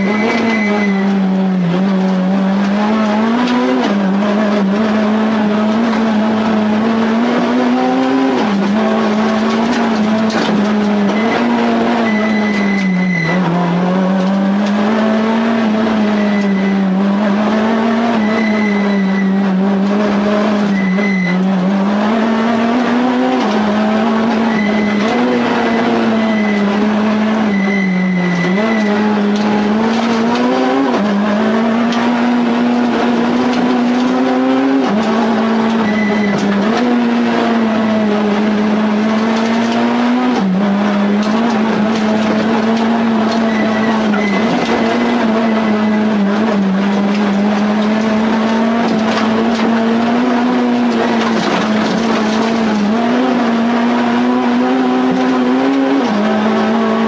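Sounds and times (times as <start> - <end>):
rally car engine running hard: 0.0 - 57.0.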